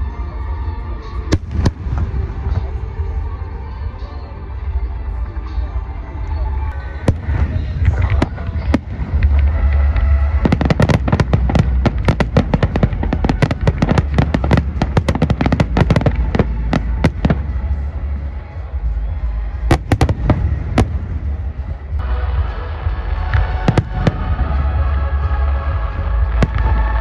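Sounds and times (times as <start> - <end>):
fireworks bangs and crackles: 0.4 - 3.7, 6.8 - 27.0.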